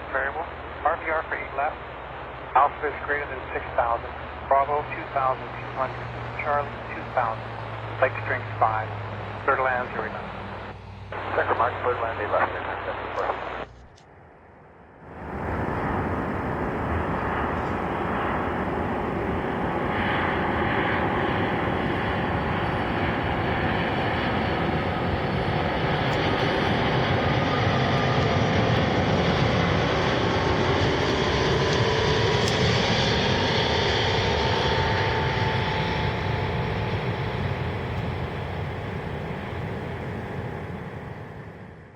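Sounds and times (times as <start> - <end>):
jet airliner engines rushing: 0.0 - 13.4, 15.0 - 41.9.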